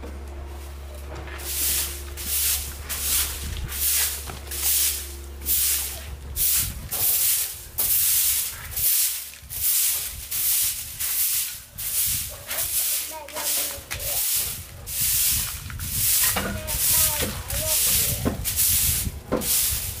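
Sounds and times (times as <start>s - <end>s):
broom sweeping concrete floor: 0.4s - 20.0s.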